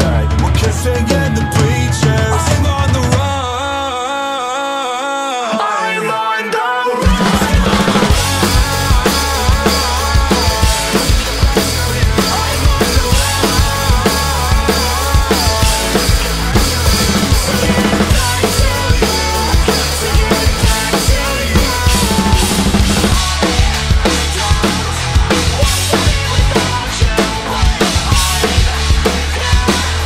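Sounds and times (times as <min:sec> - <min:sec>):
rock backing track: 0:00.0 - 0:03.8, 0:07.0 - 0:30.0
drum kit played hard: 0:00.0 - 0:04.0, 0:07.0 - 0:30.0.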